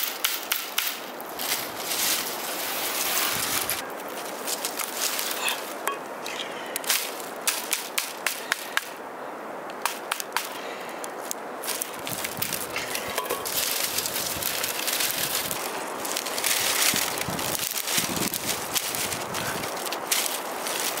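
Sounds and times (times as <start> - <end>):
bamboo clicking and snapping: 0.0 - 1.6, 4.5 - 9.0, 9.6 - 12.8, 13.4 - 21.0
bamboo strips rustling: 0.0 - 9.0, 9.8 - 21.0.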